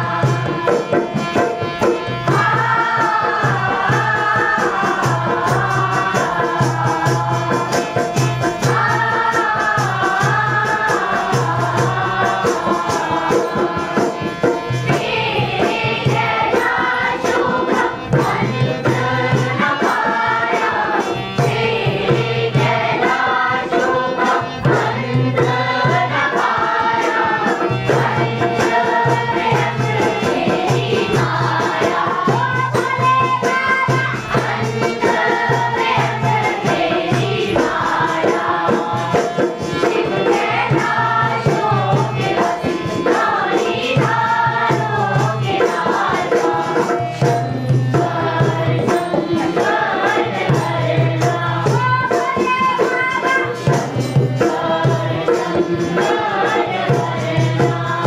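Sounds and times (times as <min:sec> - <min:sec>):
drum beating steady rhythm: 0:00.0 - 0:58.0
voices singing: 0:00.0 - 0:58.0.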